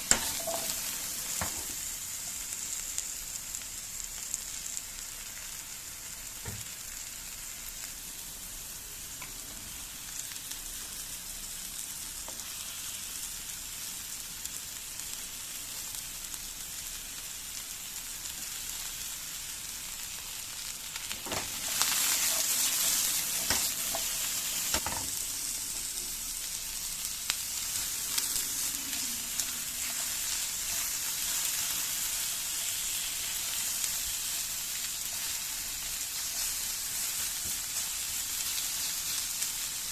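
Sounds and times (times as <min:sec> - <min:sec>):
food sizzling in pan: 0:00.0 - 0:39.9.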